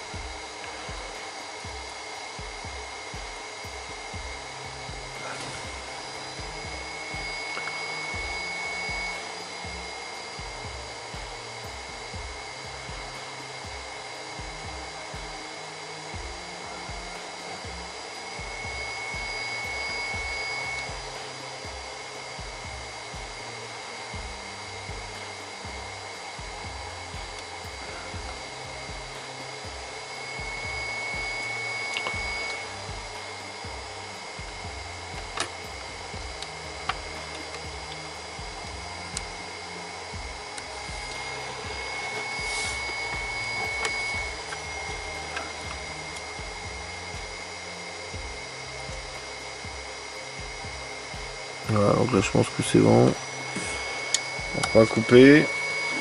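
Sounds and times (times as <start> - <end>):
background music with steady beat: 0.0 - 56.0
rework station whirring: 0.0 - 56.0.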